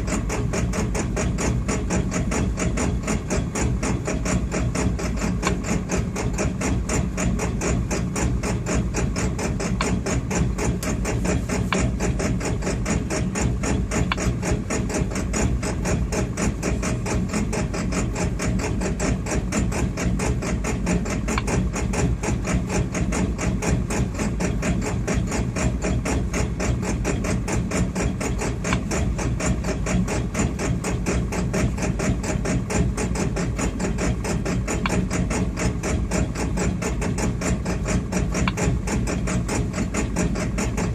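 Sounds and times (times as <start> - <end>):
engine idling roughly with clatter: 0.0 - 40.9.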